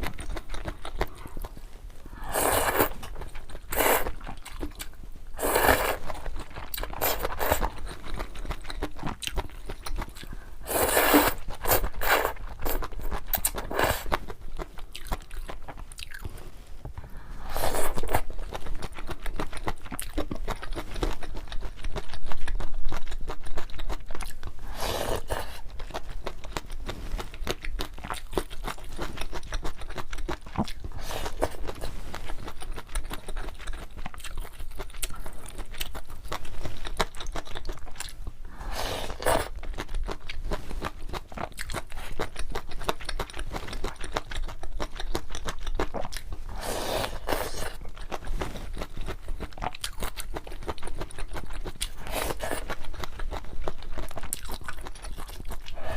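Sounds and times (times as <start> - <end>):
chewing noodles: 0.0 - 16.4, 17.5 - 55.9.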